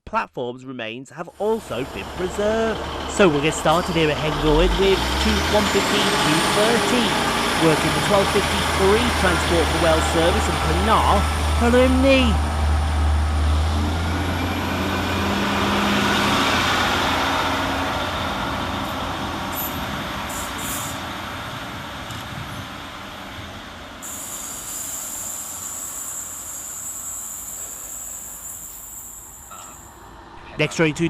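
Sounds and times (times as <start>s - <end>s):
train diesel engine: 1.2s - 31.0s
rail noise: 1.3s - 31.0s.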